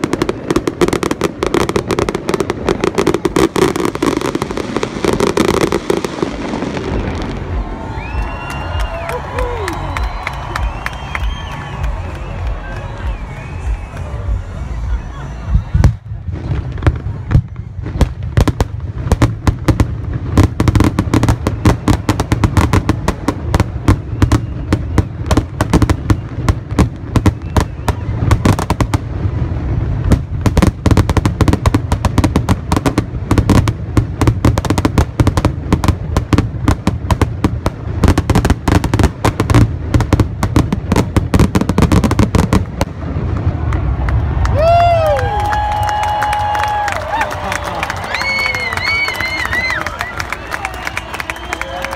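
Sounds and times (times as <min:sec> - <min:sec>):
fireworks bursting and crackling: 0:00.0 - 0:51.9.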